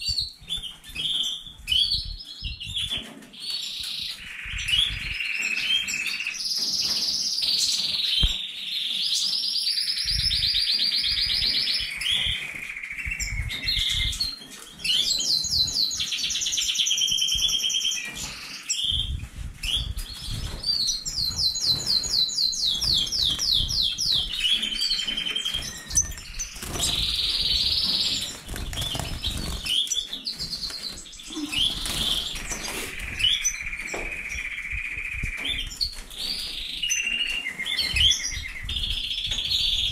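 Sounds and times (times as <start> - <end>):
finches singing: 0.1 - 39.9.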